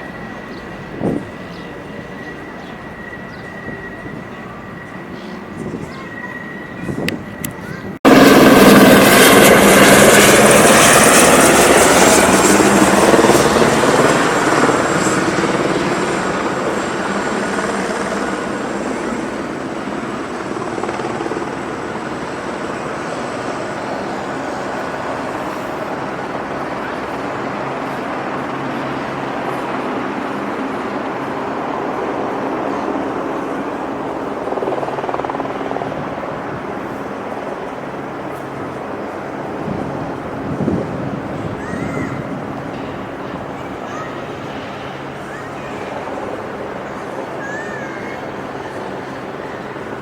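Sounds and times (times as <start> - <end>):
helicopter passing overhead: 0.0 - 50.0.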